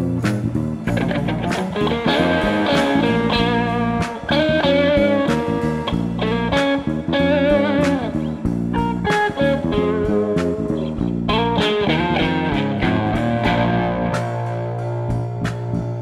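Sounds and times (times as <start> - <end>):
guitar band music: 0.0 - 16.0.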